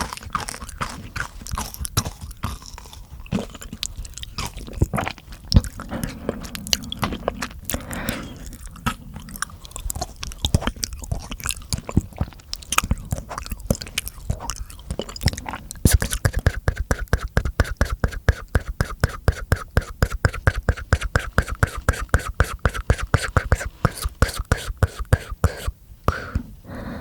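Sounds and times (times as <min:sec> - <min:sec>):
wet mouth clicks and smacks: 0:00.0 - 0:26.2.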